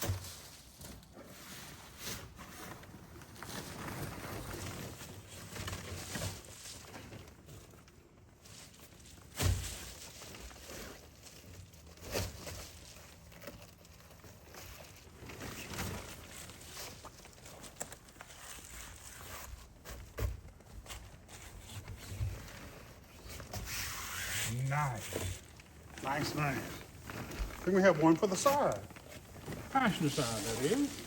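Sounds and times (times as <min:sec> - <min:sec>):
foil blind rustling: 0:00.1 - 0:31.0.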